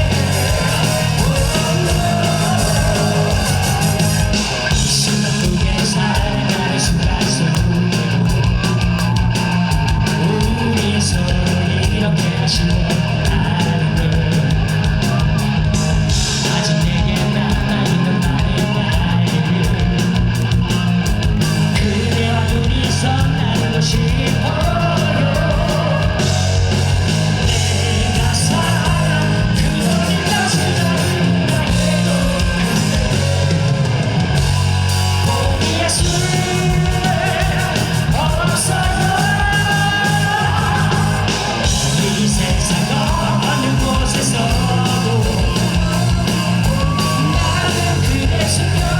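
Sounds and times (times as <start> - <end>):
live rock band: 0.0 - 48.9.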